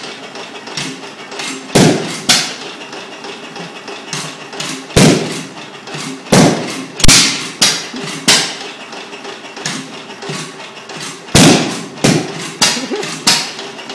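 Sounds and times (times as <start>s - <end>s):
sharp exhaust bangs: 0.0s - 3.2s, 3.8s - 13.6s
stationary engine running: 0.0s - 13.9s.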